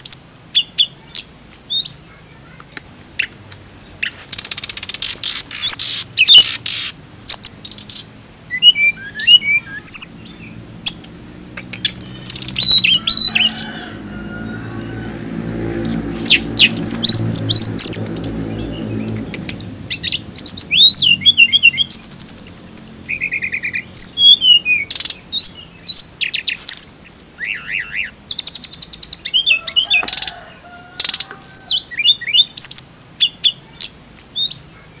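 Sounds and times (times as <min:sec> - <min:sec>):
bird singing trills and whistles: 0:00.0 - 0:02.2, 0:03.1 - 0:13.8, 0:14.8 - 0:34.9.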